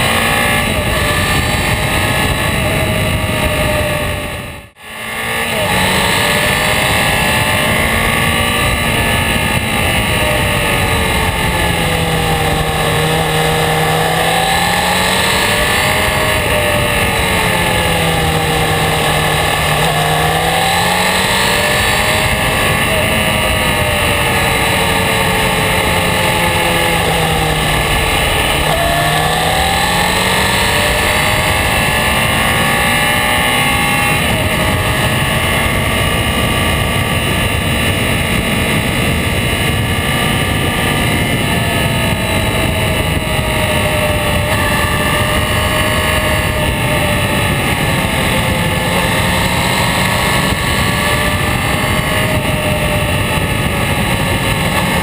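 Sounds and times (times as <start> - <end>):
motorcycle engine revving: 0.0 - 55.0
wind and road rush: 0.0 - 55.0.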